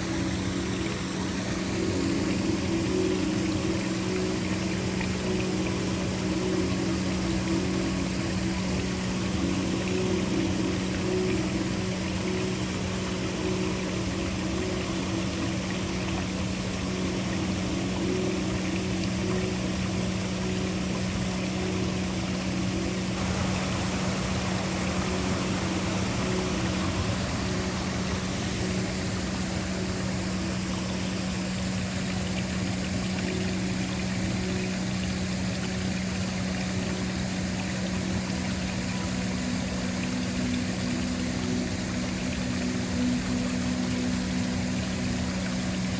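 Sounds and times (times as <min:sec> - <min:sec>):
low ambient drone: 0:00.0 - 0:45.9
waterfall rushing: 0:00.0 - 0:45.9.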